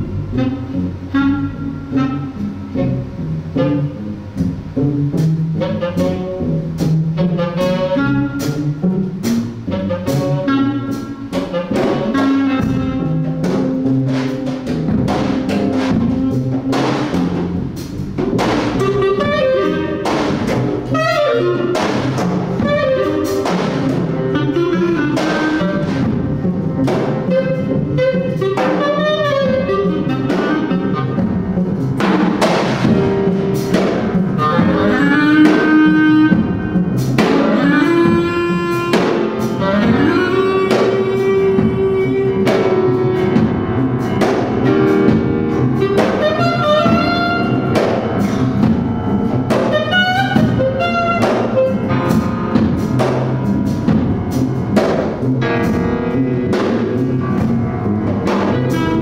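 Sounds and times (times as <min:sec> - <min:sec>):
clarinet melody: 0:00.0 - 0:59.0
double bass: 0:00.0 - 0:59.0
drum kit with cymbals: 0:00.0 - 0:59.0.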